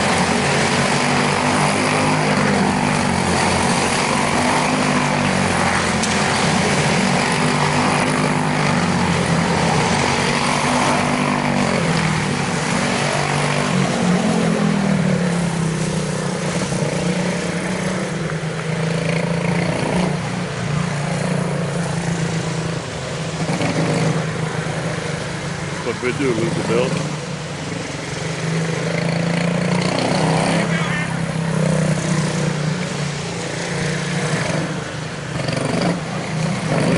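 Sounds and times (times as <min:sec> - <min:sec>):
small race car engines racing: 0:00.0 - 0:36.9.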